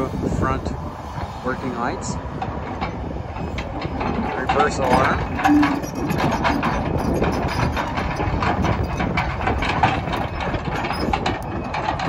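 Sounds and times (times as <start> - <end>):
diesel excavator engine running: 0.0 - 12.0
steel tracks clanking: 0.0 - 12.0.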